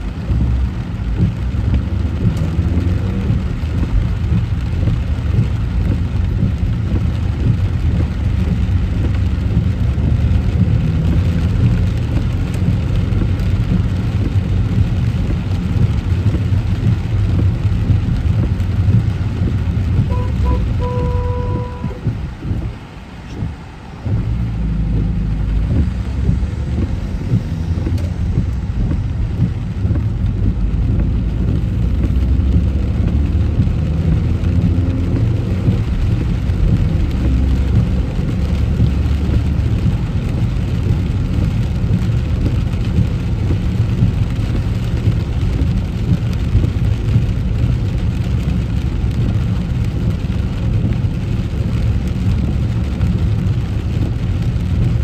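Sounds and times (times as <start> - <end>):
car engine and tyres rumbling: 0.0 - 55.0
rain and spray hissing: 0.0 - 55.0.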